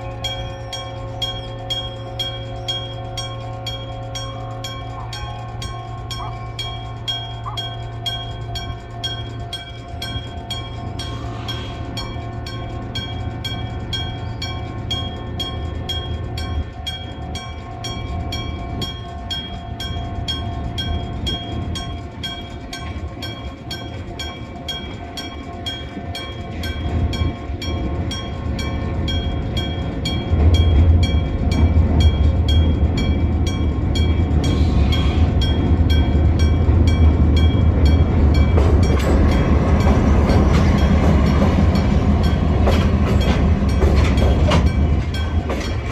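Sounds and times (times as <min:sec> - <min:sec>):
freight train passing: 0:00.0 - 0:45.9
railway crossing bell ringing: 0:00.0 - 0:45.9.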